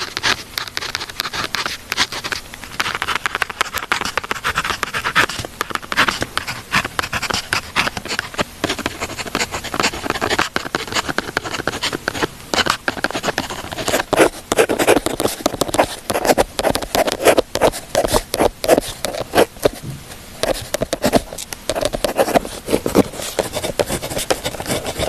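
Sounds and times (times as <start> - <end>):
pen scratching on paper: 0.0 - 19.8, 20.4 - 25.0.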